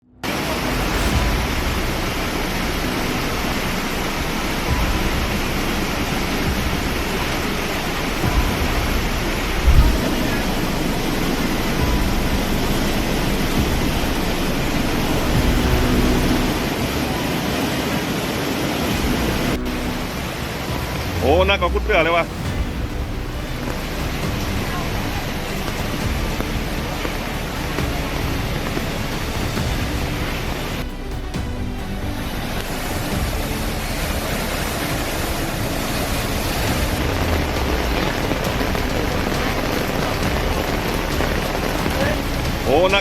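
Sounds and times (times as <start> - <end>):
flood torrent roaring: 0.0 - 43.0.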